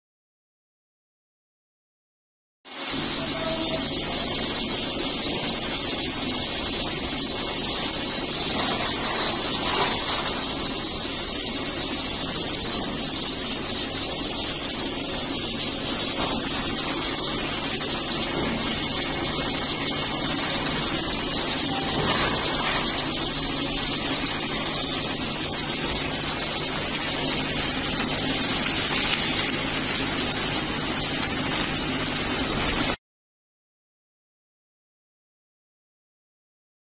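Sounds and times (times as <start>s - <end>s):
gas hissing into bag: 2.8s - 33.0s.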